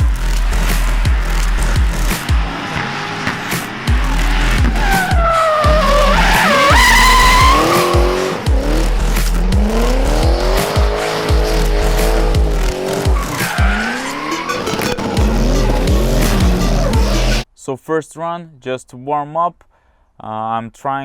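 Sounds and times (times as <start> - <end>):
background music with beat: 0.0 - 17.4
car engine revving: 0.0 - 17.4
tyres squealing: 0.2 - 17.4.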